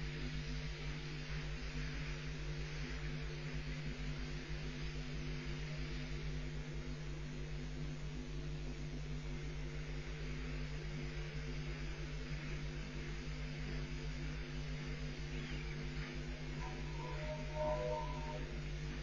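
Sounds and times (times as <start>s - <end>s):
constant hiss: 0.0s - 19.0s
electrical buzz and hum: 0.0s - 19.0s.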